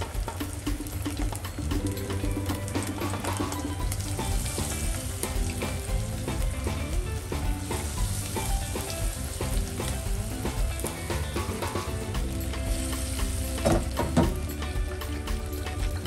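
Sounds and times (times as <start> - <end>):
oil crackling and sizzling: 0.0 - 16.0.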